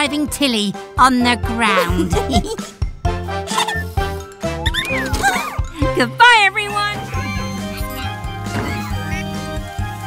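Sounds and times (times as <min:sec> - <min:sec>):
cheerful cartoon music: 0:00.0 - 0:10.0.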